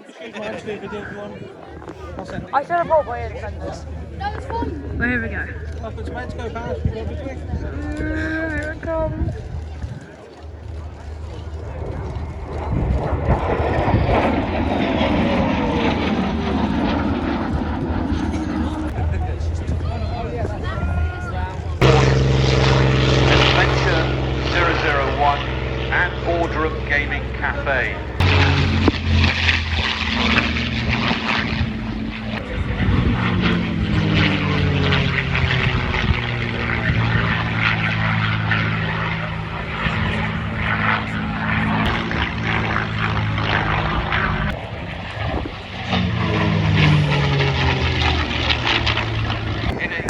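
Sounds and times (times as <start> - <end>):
aircraft flying past low: 0.6 - 50.0.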